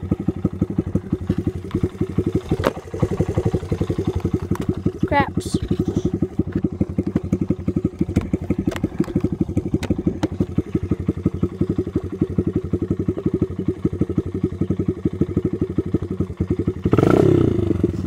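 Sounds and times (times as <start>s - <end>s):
dirt bike engine idling: 0.0s - 18.0s.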